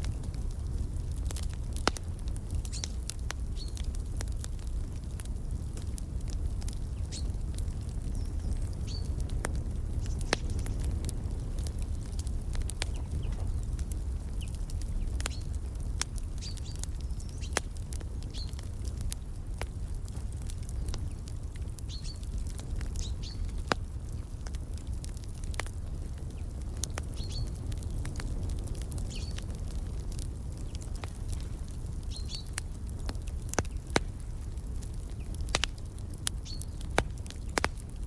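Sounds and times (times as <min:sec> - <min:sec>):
low fire rumble: 0:00.0 - 0:38.0
wood fire crackling and popping: 0:00.0 - 0:38.0.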